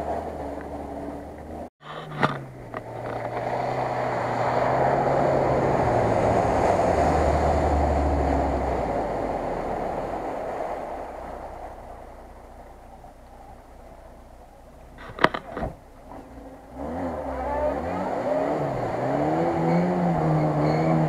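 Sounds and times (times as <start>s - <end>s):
car engine under load: 0.0s - 21.0s
water splashing: 0.0s - 21.0s.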